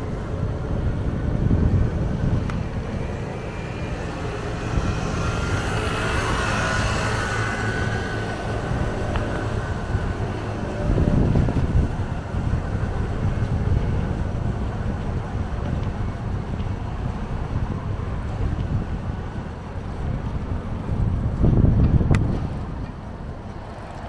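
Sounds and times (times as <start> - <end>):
street noise: 0.0 - 24.0
wind buffeting microphone: 0.0 - 24.0.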